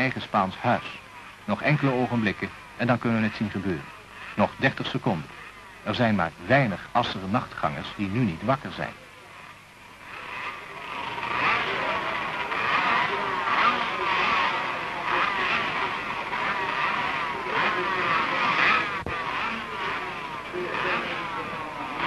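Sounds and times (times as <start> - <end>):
two-stroke motorcycle engines revving: 0.0 - 22.0.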